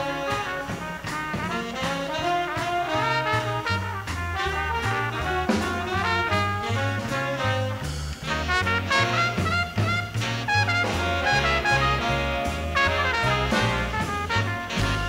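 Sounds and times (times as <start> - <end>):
big band playing swing: 0.0 - 15.0
trumpet lead: 0.0 - 15.0
walking bass line: 0.0 - 15.0.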